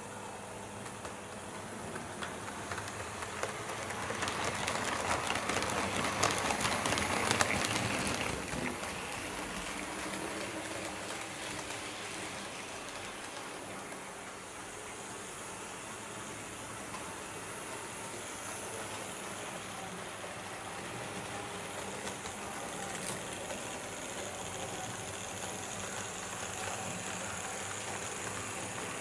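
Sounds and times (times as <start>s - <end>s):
model train rolling rumble: 0.7s - 29.0s.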